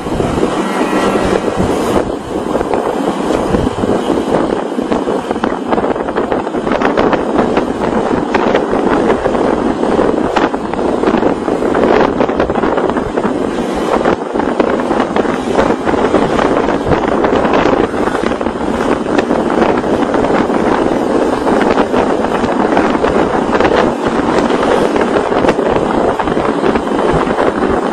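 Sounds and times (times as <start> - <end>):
vehicle road and engine noise: 0.0 - 27.9
wind buffeting microphone: 0.0 - 27.9.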